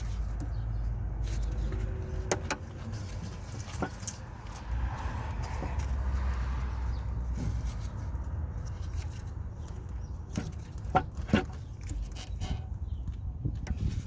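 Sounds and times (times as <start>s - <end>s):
clicks and knocks of car parts: 0.0s - 6.4s, 7.2s - 14.0s.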